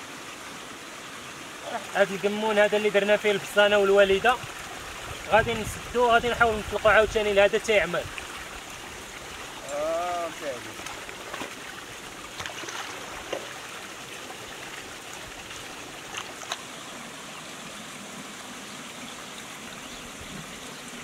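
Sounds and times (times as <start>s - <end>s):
water flowing along a channel: 0.0s - 21.0s.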